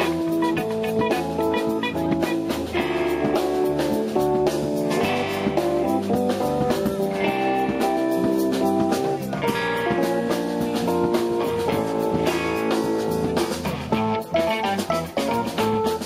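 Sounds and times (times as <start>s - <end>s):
drum kit beat: 0.0s - 16.0s
electric bass: 0.0s - 16.0s
electric guitar: 0.0s - 16.0s.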